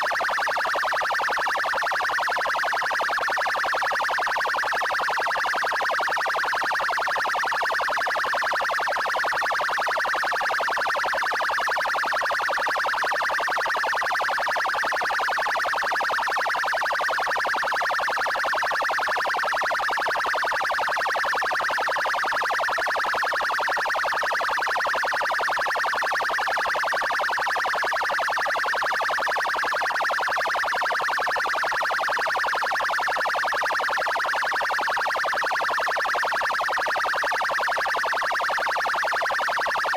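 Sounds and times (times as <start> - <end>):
police siren pulsing tone: 0.0 - 39.9.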